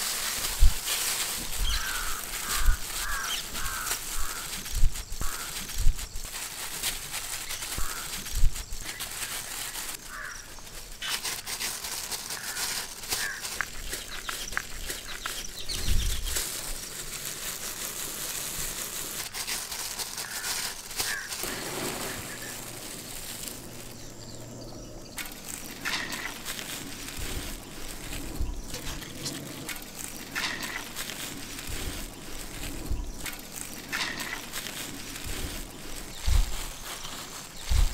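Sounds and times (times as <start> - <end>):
plastic gloves crackling: 0.0 - 37.9.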